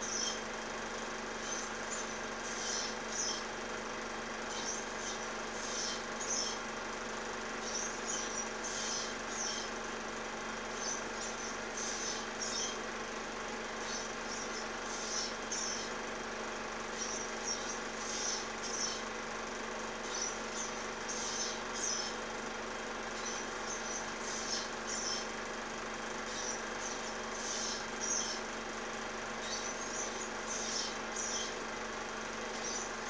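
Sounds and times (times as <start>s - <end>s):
birds chirping whistles: 0.0s - 3.6s, 4.4s - 9.8s, 10.6s - 13.1s, 13.8s - 19.1s, 19.9s - 22.3s, 23.1s - 25.3s, 26.2s - 28.5s, 29.4s - 31.6s, 32.4s - 33.0s
steady hum and hiss: 0.0s - 33.0s.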